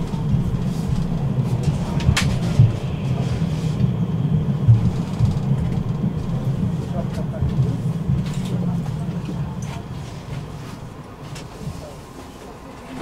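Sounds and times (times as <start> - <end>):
tram rumbling along track: 0.0 - 13.0.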